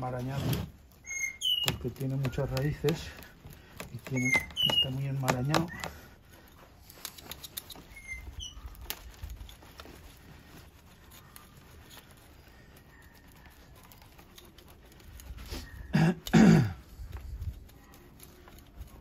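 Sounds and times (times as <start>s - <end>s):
root hook scratching roots: 0.0s - 19.0s
roots and soil crackling: 0.0s - 19.0s.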